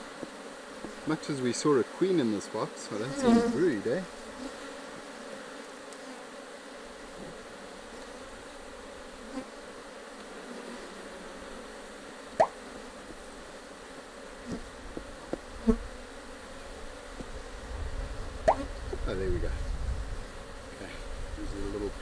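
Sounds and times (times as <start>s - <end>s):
bees humming: 0.0s - 19.0s.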